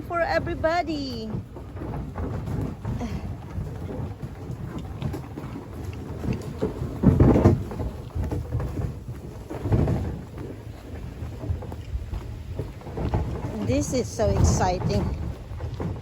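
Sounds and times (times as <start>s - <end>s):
kayaks dragged over ground: 0.0s - 16.0s.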